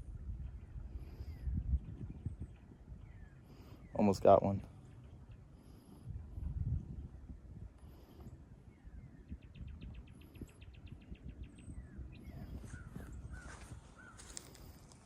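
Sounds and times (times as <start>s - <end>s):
wind rumble on microphone: 0.0s - 15.0s
birds chirping: 0.1s - 15.0s.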